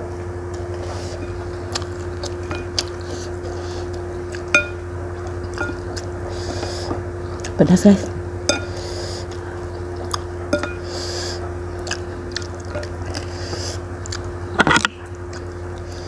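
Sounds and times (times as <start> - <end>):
steady low hum: 0.0 - 16.0
person chewing: 0.5 - 7.6, 8.5 - 16.0.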